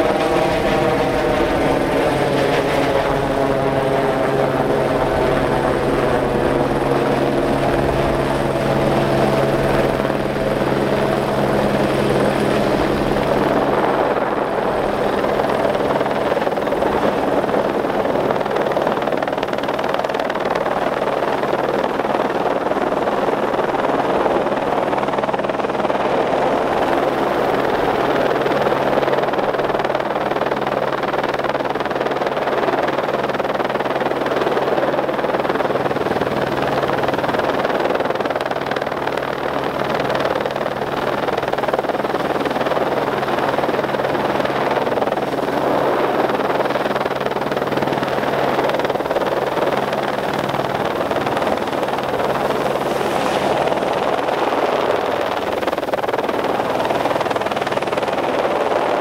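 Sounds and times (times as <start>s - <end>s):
helicopter hovering: 0.0s - 59.0s.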